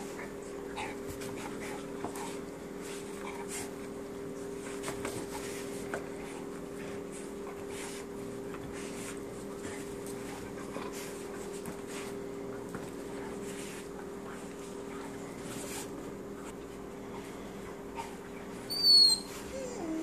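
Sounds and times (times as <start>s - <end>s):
dogs scuffling on carpet: 0.0s - 20.0s.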